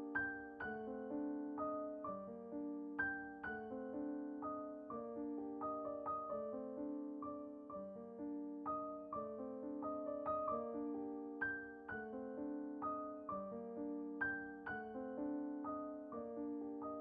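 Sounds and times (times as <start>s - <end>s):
gentle solo piano: 0.0s - 17.0s.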